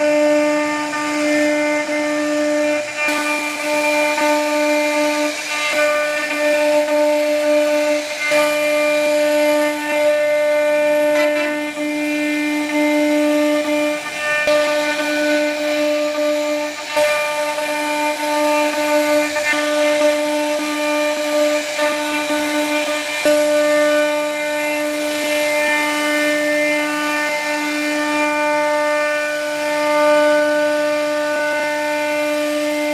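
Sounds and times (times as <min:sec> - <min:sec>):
router bit rasping through wood: 0:00.0 - 0:32.9
router spindle whining: 0:00.0 - 0:32.9.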